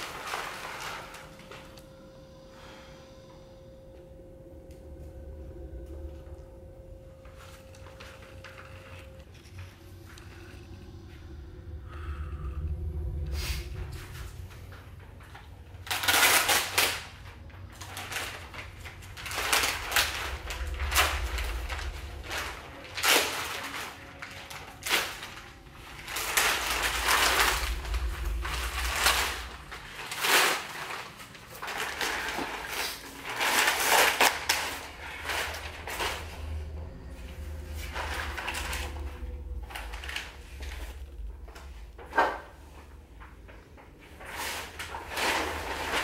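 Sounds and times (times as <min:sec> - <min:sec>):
plastic sheeting crinkling: 0:00.0 - 0:03.0, 0:04.8 - 0:11.4, 0:12.0 - 0:46.0
steady low hum: 0:00.0 - 0:46.0.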